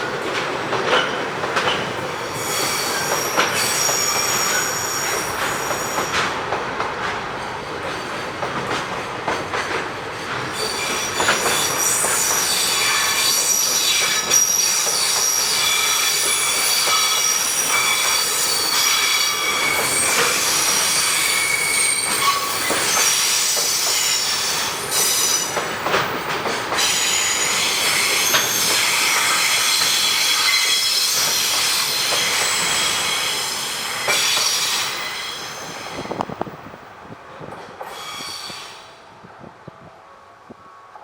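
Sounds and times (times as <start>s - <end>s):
train wheels squealing on rails: 0.0s - 36.7s, 37.4s - 39.2s.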